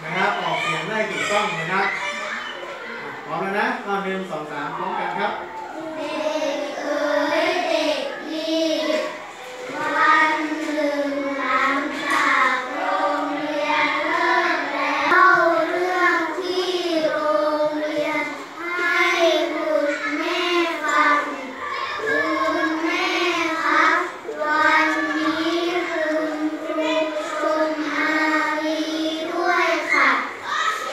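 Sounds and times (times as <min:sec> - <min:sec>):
children chanting in unison: 0:05.6 - 0:30.9.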